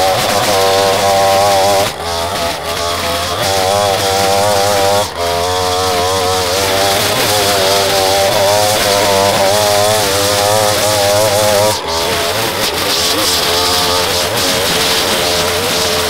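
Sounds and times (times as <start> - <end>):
small two-stroke engine revving: 0.0 - 16.0.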